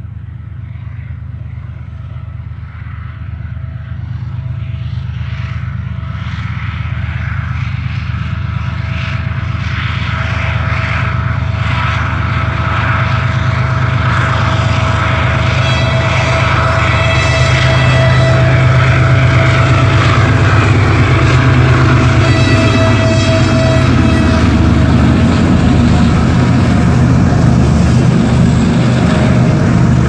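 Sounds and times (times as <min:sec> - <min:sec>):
high whine: 0:00.0 - 0:30.0
locomotive engine drone: 0:00.0 - 0:30.0.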